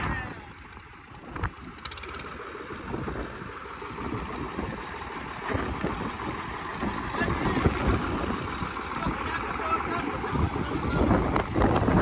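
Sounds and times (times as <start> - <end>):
tractor engines running hard: 0.0 - 12.0.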